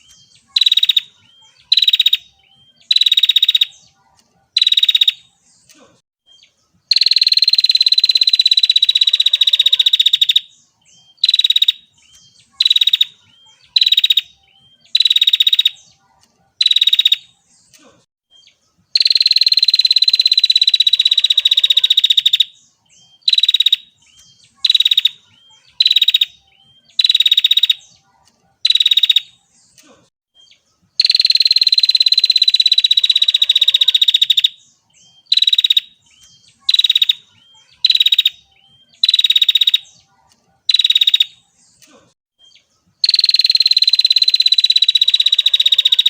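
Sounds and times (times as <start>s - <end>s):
bird calling with buzzy trill: 0.0s - 4.0s, 4.6s - 16.0s, 16.6s - 17.5s, 18.3s - 28.0s, 28.6s - 29.8s, 30.4s - 40.1s, 40.7s - 41.8s, 42.4s - 46.0s.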